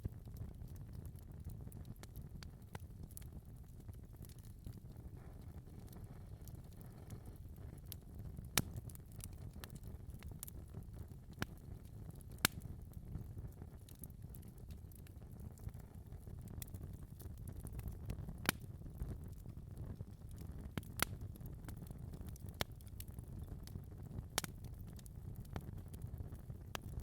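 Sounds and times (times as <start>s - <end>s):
fire crackling and popping: 0.0s - 27.0s
fire low rumble: 0.0s - 27.0s.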